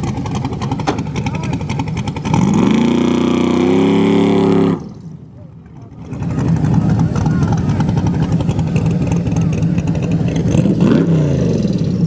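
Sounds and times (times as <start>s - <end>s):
race car engine revving: 0.0s - 5.1s, 5.8s - 12.0s.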